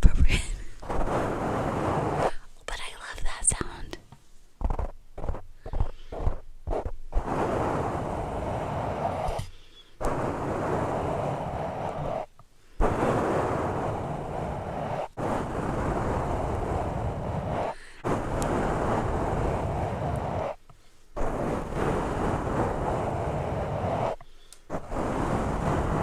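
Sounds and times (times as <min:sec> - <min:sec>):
scratchy rubbing on microphone: 0:00.1 - 0:26.0.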